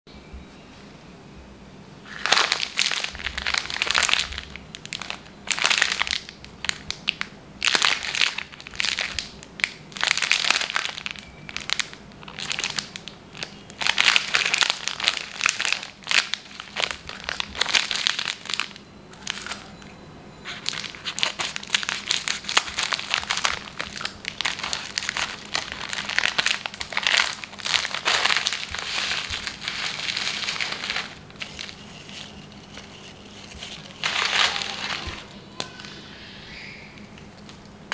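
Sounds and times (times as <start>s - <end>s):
foil inner pack rustling: 2.1s - 19.7s, 20.5s - 35.3s
plastic wrapper crinkling: 2.1s - 19.9s, 20.5s - 35.4s.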